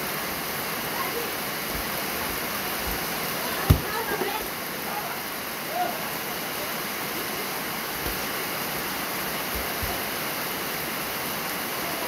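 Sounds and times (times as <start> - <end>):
heavy rain: 0.0 - 12.0
water streaming off roof: 0.0 - 12.0.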